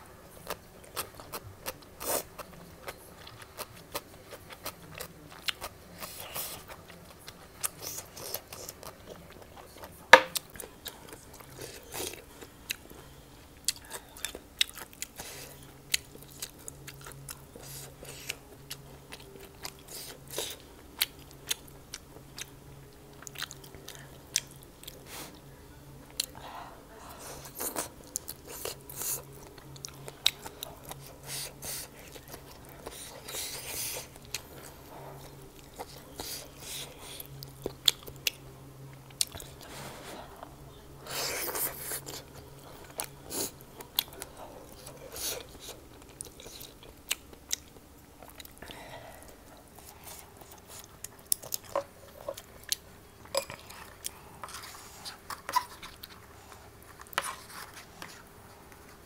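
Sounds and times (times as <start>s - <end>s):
person chewing food: 0.4s - 25.4s, 27.3s - 59.0s.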